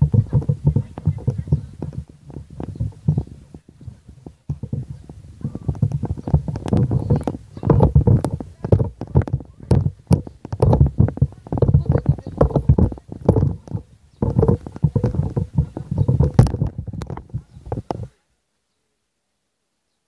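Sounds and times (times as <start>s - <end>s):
irregular knocks: 0.0s - 18.1s
wind buffeting microphone: 0.0s - 18.2s.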